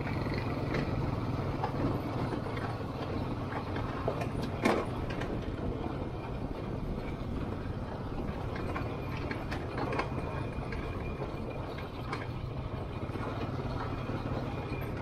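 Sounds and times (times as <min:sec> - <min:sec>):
atv engines rumbling: 0:00.0 - 0:15.0.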